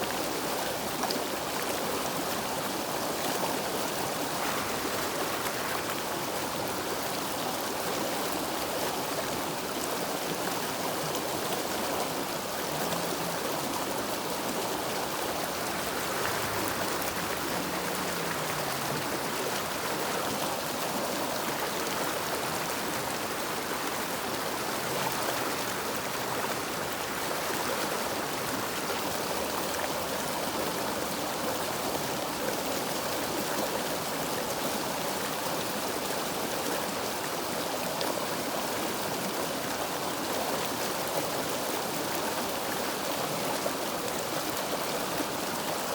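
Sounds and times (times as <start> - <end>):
river water flowing: 0.0 - 45.9.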